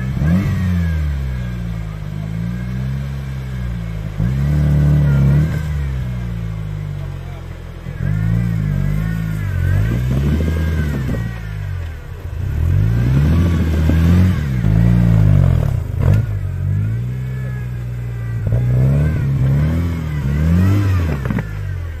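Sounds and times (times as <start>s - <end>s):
racing engine revving: 0.0s - 22.0s.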